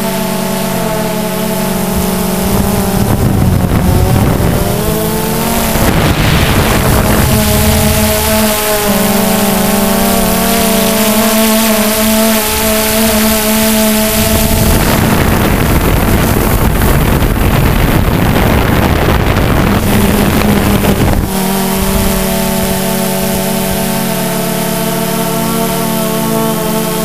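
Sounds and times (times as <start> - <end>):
drone motors humming: 0.0 - 27.0
wind on microphone: 0.1 - 27.0.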